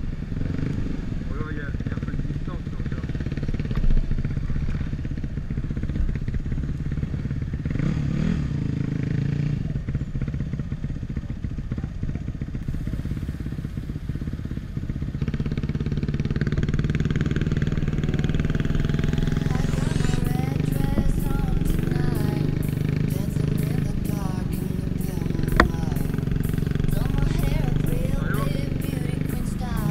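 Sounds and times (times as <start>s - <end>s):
dirt bike engine revving: 0.0s - 10.3s, 12.6s - 29.9s.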